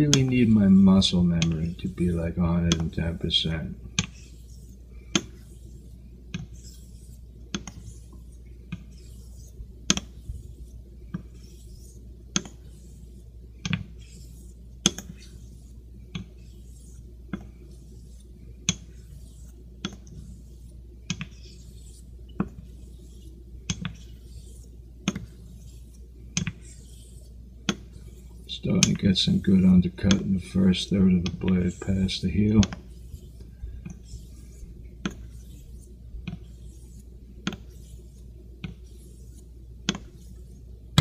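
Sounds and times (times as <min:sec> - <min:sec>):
steel rubbing on whetstone: 0:00.2 - 0:13.3, 0:13.9 - 0:40.7.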